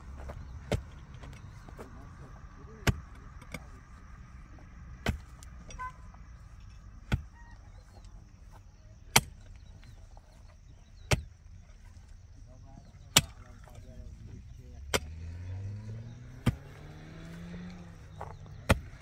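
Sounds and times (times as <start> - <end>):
low steady background noise: 0.0 - 19.0.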